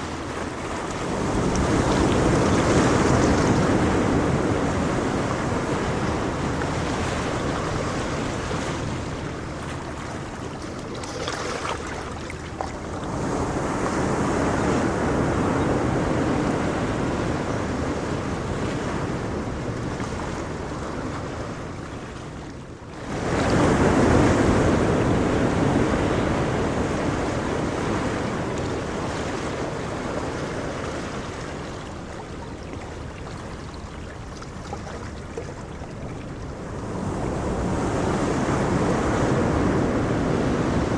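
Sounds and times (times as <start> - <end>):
ocean waves surging: 0.0 - 21.6, 23.0 - 40.9.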